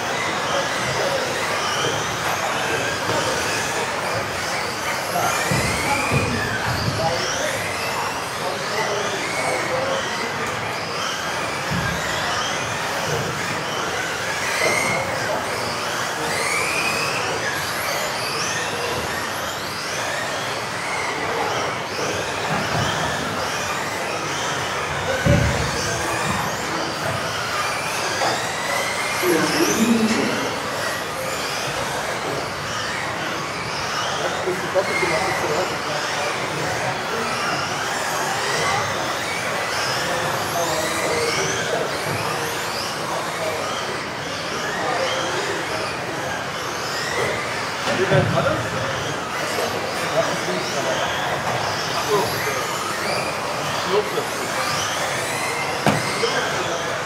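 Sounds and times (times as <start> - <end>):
electric motors whining: 0.0 - 57.0.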